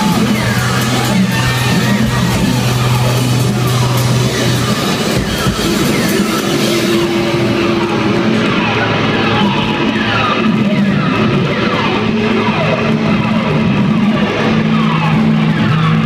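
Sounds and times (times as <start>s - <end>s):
distorted electric guitars: 0.0s - 16.0s
drum kit: 0.0s - 16.0s.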